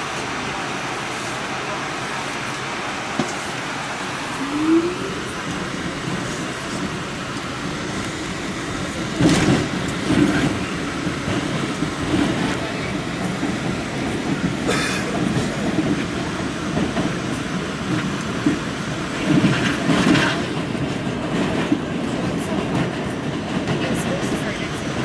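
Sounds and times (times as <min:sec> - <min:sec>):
subway car rumble: 0:00.0 - 0:25.0.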